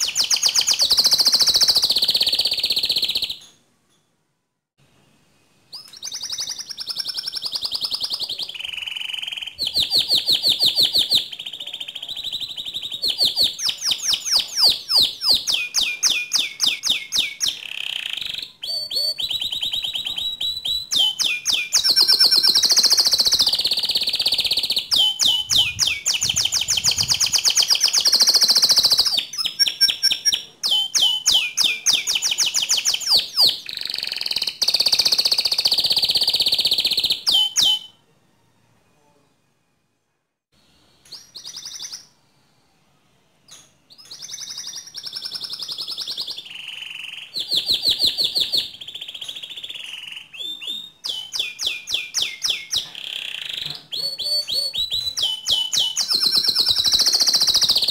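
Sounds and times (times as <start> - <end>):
canary singing: 0.0 - 3.6, 5.7 - 38.0, 41.0 - 42.2, 43.5 - 57.9.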